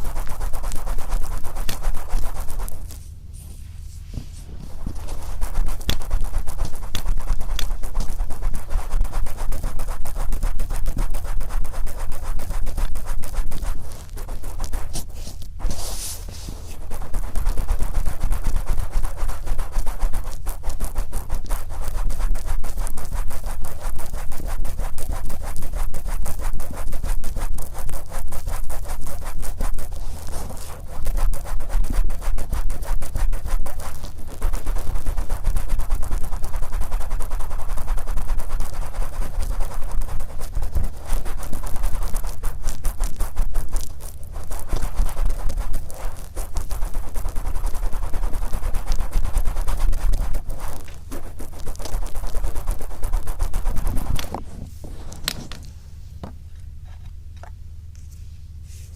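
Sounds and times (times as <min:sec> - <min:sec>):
cotton swab rubbing microphone: 0:00.0 - 0:55.8.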